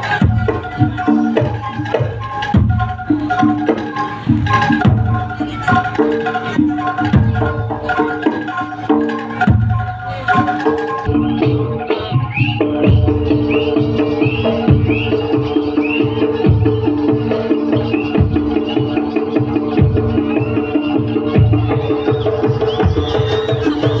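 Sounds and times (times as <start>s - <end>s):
xylophone-like notes: 0.0s - 24.0s.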